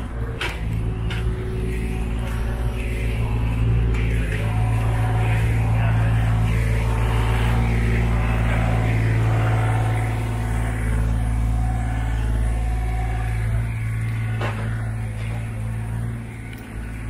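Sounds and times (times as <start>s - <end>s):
heavy vehicle engine humming: 0.0s - 17.0s
street traffic: 0.0s - 17.0s.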